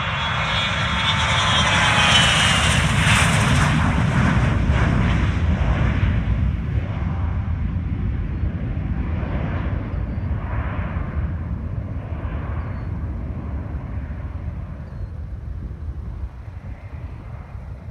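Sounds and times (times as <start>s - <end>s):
jet engines at takeoff: 0.0s - 17.9s.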